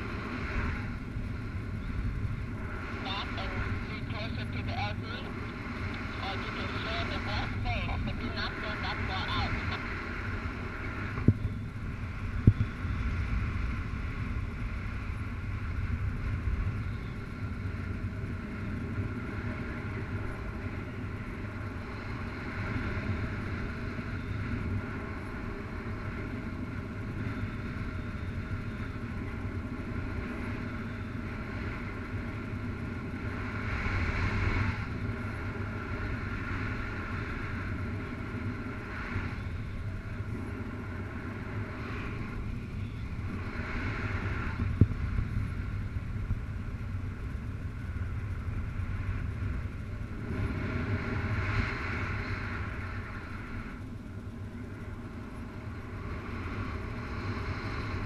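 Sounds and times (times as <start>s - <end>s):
wind rumble over camera: 0.0s - 58.0s.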